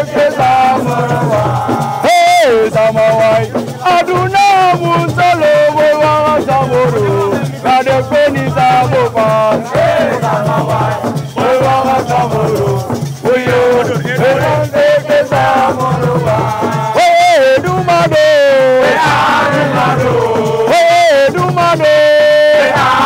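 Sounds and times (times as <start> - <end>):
person singing: 0.0 - 23.0
shaken rattle: 0.0 - 23.0
steady drum beat: 0.0 - 23.0.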